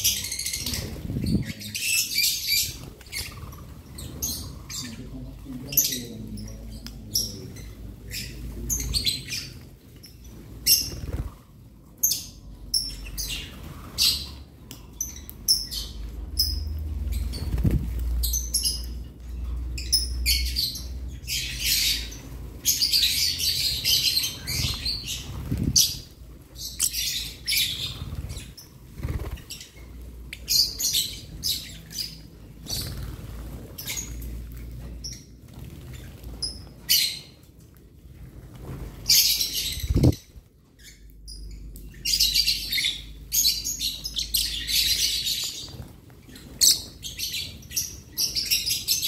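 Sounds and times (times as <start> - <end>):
lovebirds chirping and chattering: 0.0 - 49.0.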